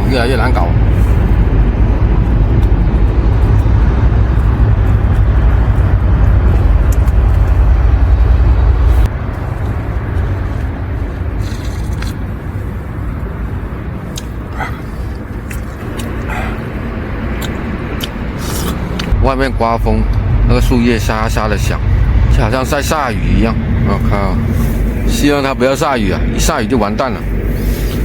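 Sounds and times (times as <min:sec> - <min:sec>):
wind buffeting with low rumble: 0:00.0 - 0:28.0.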